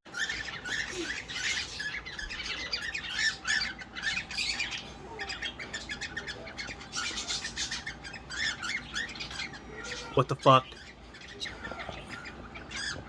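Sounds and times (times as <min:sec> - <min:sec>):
cockatiels chirping and squawking: 0:00.1 - 0:13.0.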